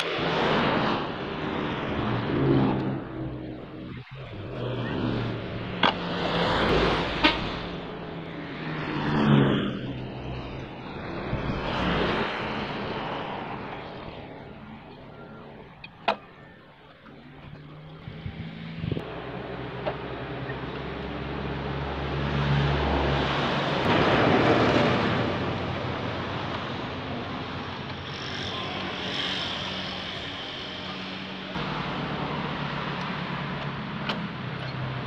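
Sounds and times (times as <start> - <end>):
vehicles passing close by: 0.0 - 35.0.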